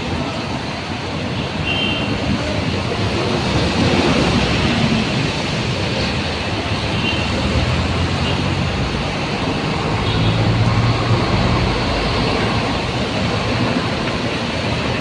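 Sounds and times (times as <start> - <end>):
road noise: 0.0 - 15.0
heavy truck engine: 2.1 - 15.0
car engines passing: 2.2 - 15.0.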